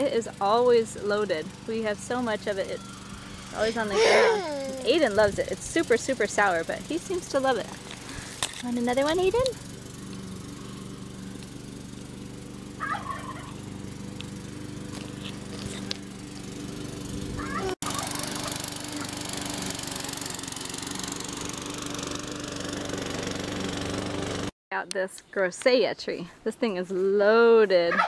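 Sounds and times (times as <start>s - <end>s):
lawn mower engine running: 0.0s - 24.5s.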